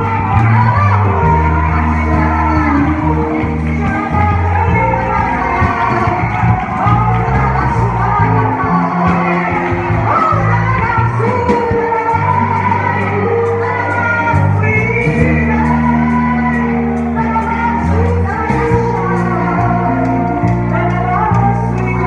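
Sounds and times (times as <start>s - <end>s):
gospel singing over a band: 0.0s - 22.0s
sustained low bass notes: 0.0s - 22.0s.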